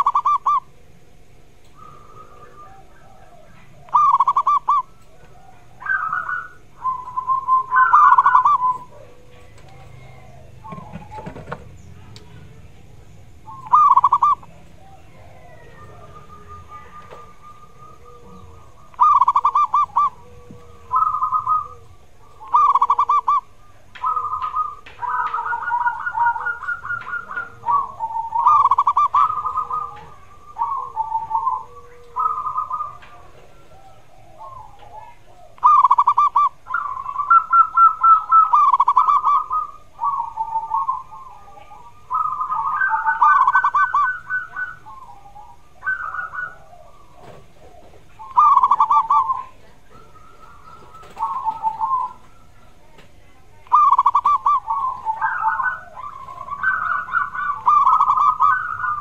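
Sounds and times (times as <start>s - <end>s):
dove staccato cooing: 0.0s - 59.0s
soft low dove coos: 0.0s - 59.0s.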